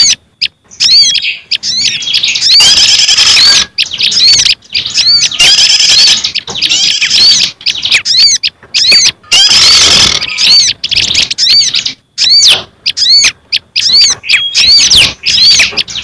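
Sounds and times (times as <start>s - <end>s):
harsh bird chattering: 0.0s - 16.0s
songbirds whistling: 0.0s - 16.0s.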